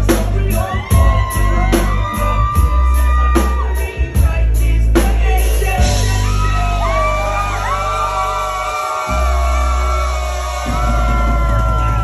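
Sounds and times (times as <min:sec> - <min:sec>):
live band music: 0:00.0 - 0:12.0
person singing: 0:00.0 - 0:12.0.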